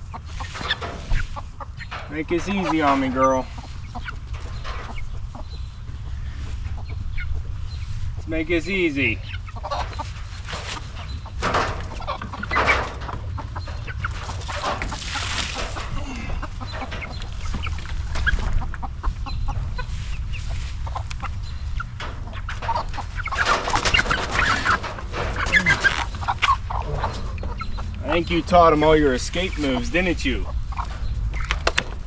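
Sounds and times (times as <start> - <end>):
hen clucking: 0.0 - 32.0.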